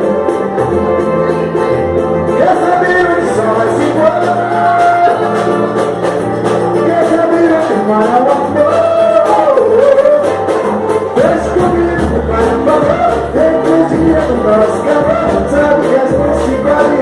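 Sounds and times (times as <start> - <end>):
drums and instruments with steady beat: 0.0 - 17.0
person singing: 0.0 - 17.0.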